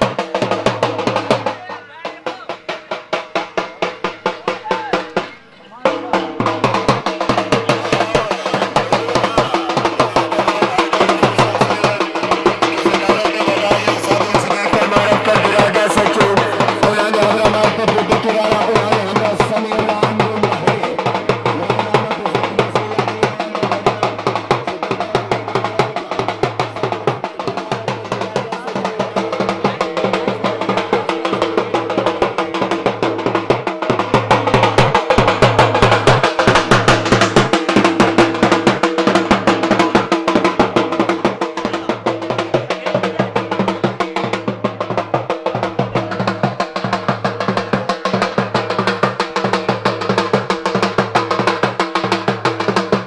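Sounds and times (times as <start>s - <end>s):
barrel drum fast rhythm: 0.0s - 53.0s.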